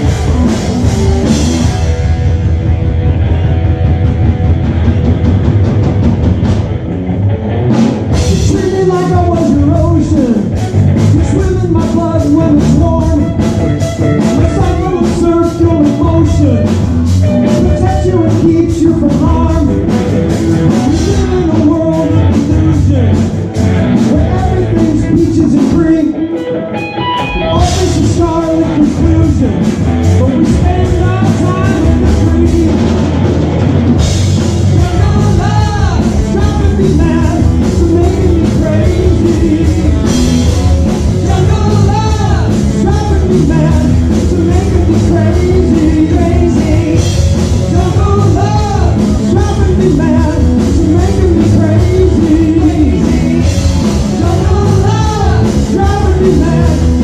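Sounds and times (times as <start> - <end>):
bass guitar: 0.0 - 57.0
drum kit beat: 0.0 - 57.0
electric guitar: 0.0 - 57.0
lead singer singing: 8.1 - 57.0.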